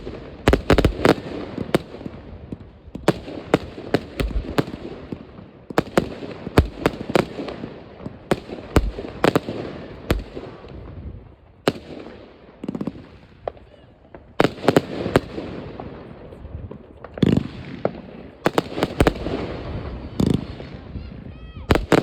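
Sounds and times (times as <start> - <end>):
distant fireworks rumble and crackle: 0.0 - 22.0
loud firework bangs: 0.0 - 22.0.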